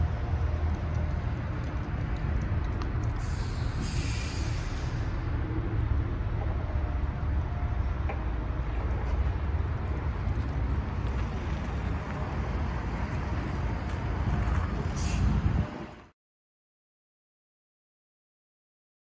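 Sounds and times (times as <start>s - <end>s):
steady low rumble: 0.0s - 16.1s.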